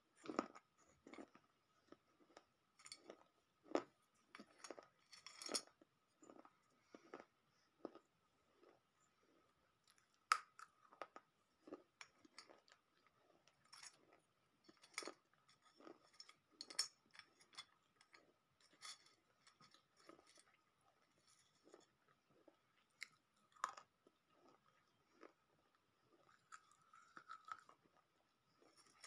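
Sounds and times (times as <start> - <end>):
baked clay crunched and chewed: 0.1 - 29.0.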